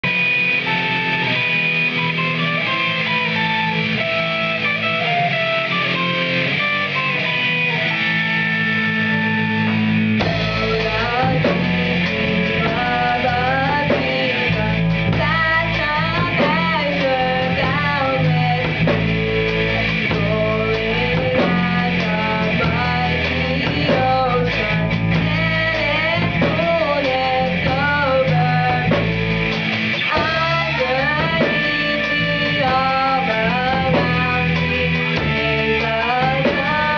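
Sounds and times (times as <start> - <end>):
bass guitar: 0.0 - 36.9
drums: 0.0 - 36.9
guitar: 0.0 - 36.9.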